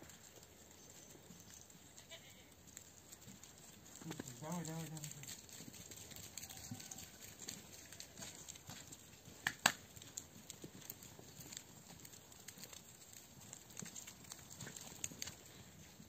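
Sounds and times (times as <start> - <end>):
footsteps and hooves on snow: 0.0 - 16.0.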